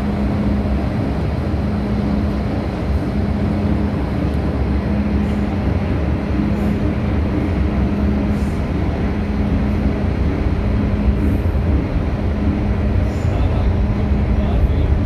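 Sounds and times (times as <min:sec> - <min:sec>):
constant hum: 0:00.0 - 0:15.0
train rumbling through tunnel: 0:00.0 - 0:15.0.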